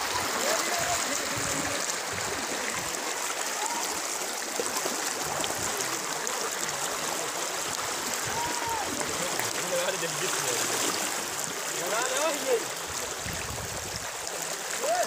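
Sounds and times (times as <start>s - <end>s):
river floodwater rushing: 0.0s - 15.0s.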